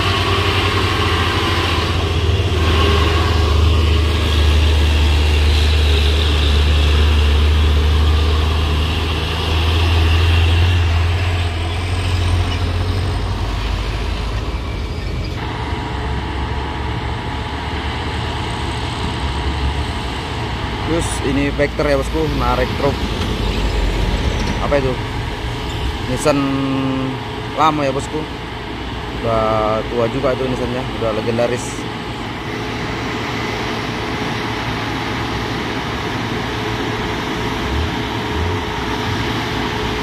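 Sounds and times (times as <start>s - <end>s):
heavy truck engine rumbling: 0.0s - 40.0s.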